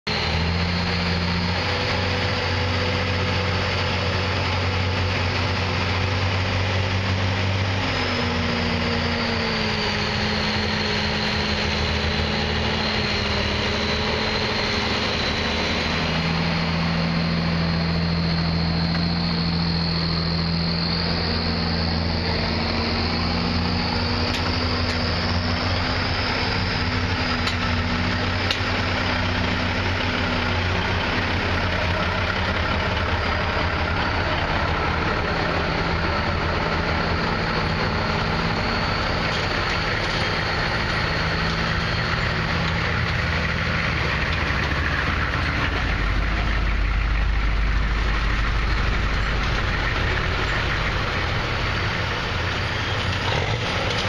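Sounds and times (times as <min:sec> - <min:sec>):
truck engines droning past: 0:00.1 - 0:54.0.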